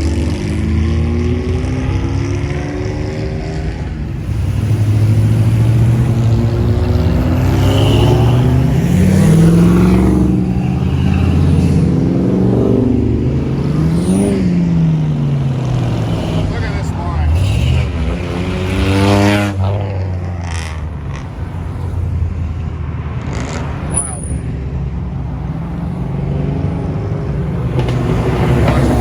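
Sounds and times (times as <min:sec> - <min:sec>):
vehicles driving past: 0:00.0 - 0:29.0.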